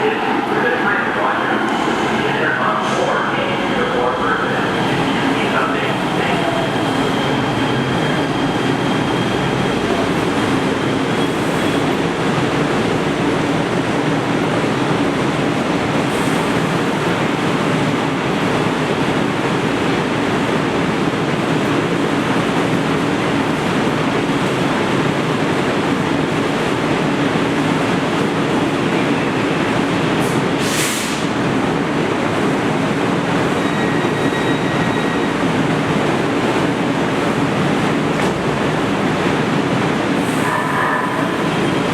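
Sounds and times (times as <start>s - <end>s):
train wheels rumbling on rail: 0.0s - 41.9s.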